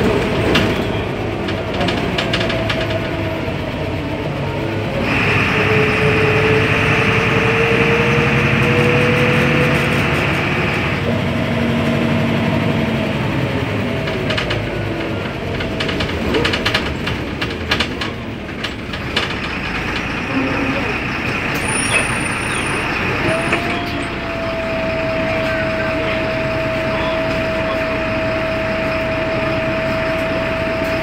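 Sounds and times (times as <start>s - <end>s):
bus diesel engine running: 0.0s - 31.0s
drivetrain whine: 0.0s - 31.0s
road rumble: 0.0s - 31.0s.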